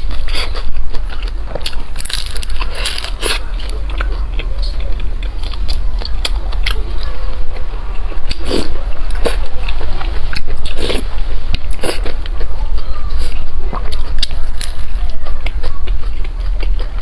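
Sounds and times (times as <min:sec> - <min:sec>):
person chewing crisp food: 0:00.0 - 0:17.0
steady low hum: 0:00.0 - 0:17.0.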